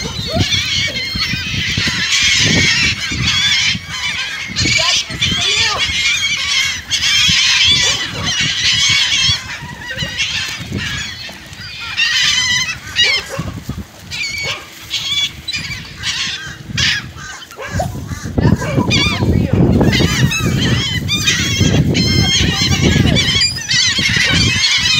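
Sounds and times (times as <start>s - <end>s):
water birds calling: 0.0s - 24.9s.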